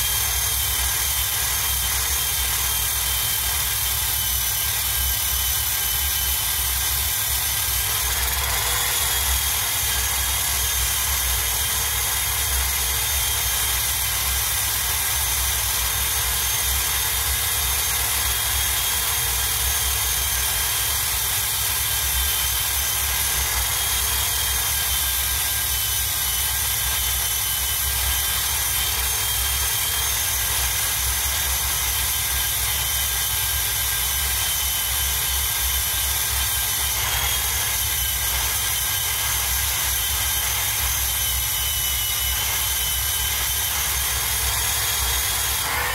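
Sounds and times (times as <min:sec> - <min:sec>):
power tool wire wheel whine: 0:00.0 - 0:45.9.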